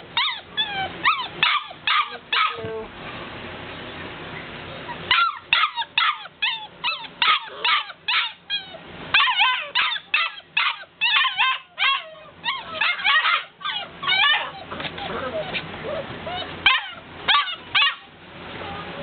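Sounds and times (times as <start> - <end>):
puppies yipping and whining: 0.0 - 2.8, 4.8 - 18.2.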